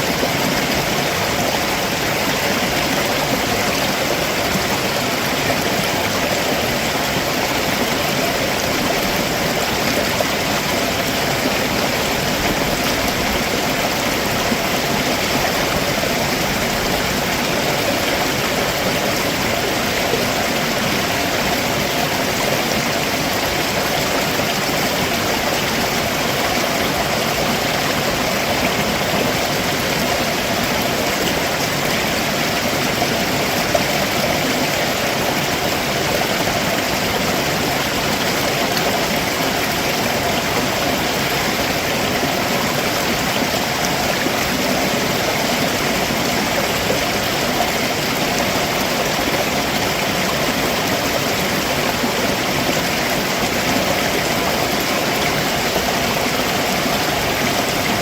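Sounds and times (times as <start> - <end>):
stream water rushing over rocks: 0.0 - 58.0.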